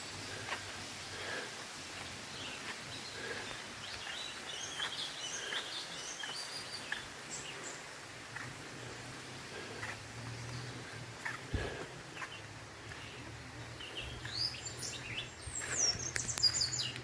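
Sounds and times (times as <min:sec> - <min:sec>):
small birds chirping: 0:00.0 - 0:17.0
steady outdoor hiss: 0:00.0 - 0:17.0.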